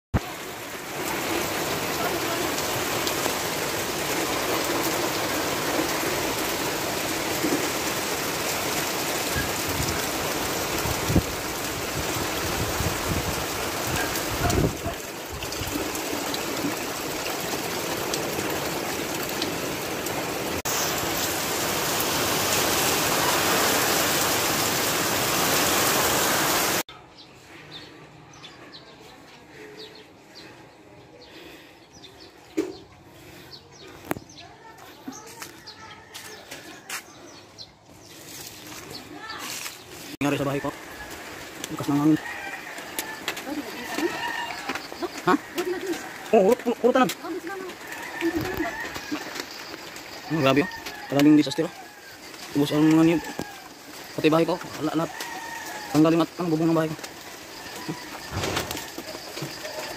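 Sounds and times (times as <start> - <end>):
wind and driving rain: 0.1 - 26.9, 38.5 - 59.9.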